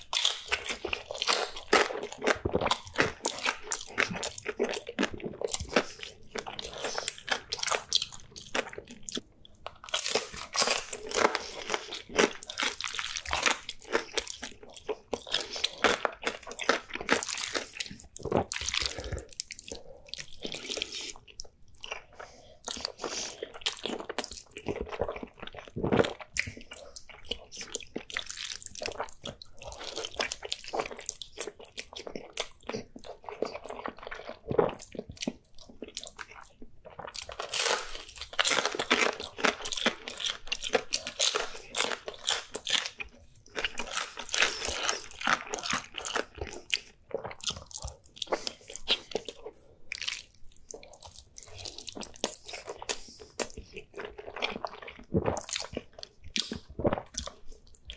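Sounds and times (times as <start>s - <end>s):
biting and chewing food: 0.0s - 57.9s.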